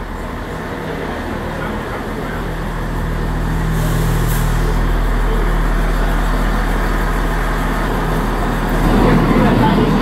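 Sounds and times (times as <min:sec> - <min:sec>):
train diesel engines humming: 0:00.0 - 0:10.0.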